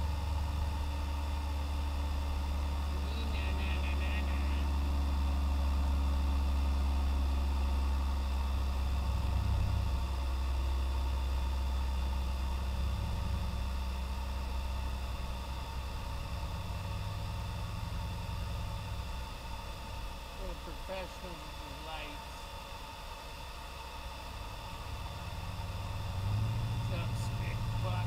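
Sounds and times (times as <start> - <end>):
car engine drone from cabin: 0.0 - 28.0.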